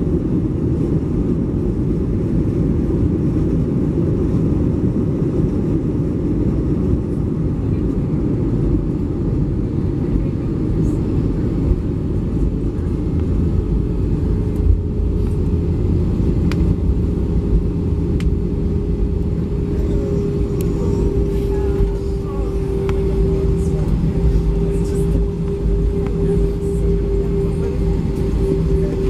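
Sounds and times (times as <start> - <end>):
deep cabin rumble: 0.0 - 29.0
engine hum: 0.0 - 29.0.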